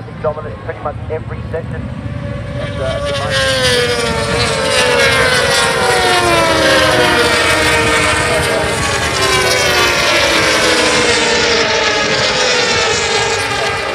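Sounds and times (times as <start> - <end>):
racing motorbikes passing: 0.0 - 13.9.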